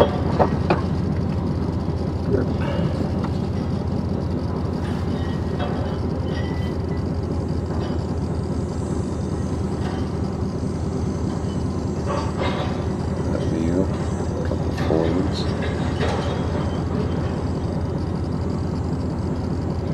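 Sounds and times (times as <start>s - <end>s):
truck engine idling: 0.0s - 19.9s.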